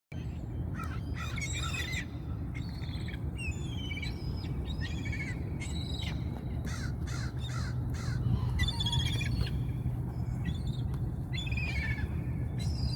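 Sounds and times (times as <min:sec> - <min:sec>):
low background rumble: 0:00.1 - 0:12.9
seagulls squawking: 0:00.8 - 0:12.9.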